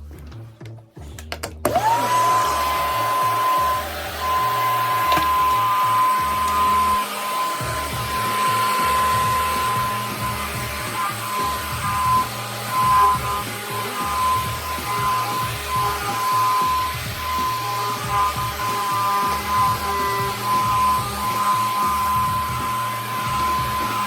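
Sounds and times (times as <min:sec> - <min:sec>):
background bass beat: 0:00.0 - 0:24.0
extraction vacuum whining: 0:01.6 - 0:24.0.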